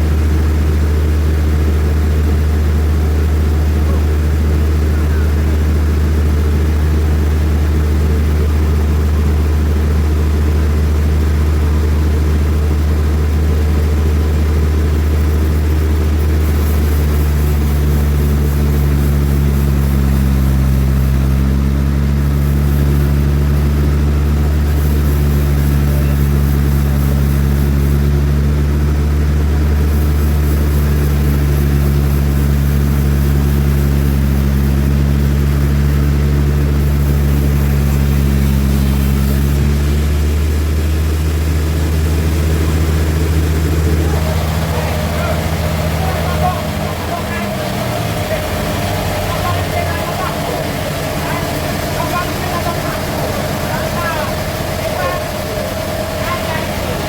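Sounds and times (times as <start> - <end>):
band sawmill drone: 0.0 - 57.0.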